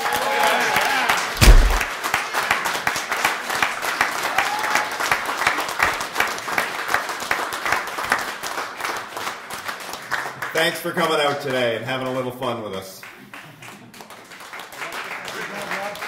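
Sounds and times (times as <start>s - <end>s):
group applauding: 0.0s - 10.7s, 13.3s - 16.0s.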